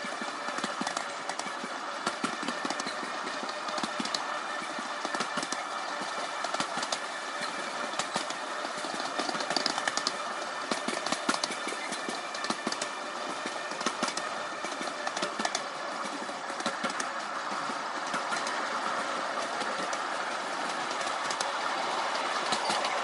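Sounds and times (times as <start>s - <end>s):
train wheels clicking over rails: 0.0s - 23.0s.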